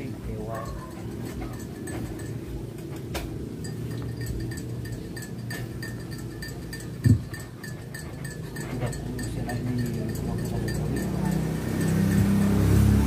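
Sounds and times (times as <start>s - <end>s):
faint rubbing and ticks: 0.0s - 12.3s.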